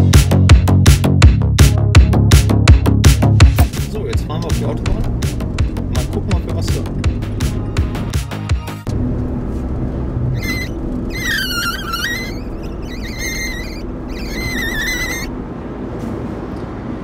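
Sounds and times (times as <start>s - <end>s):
road and engine noise: 0.0s - 17.0s.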